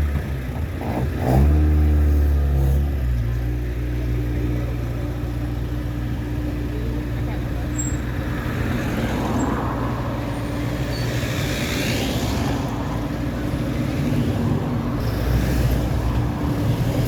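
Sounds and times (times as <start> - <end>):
tractor engines running: 0.0 - 1.0, 1.8 - 17.0.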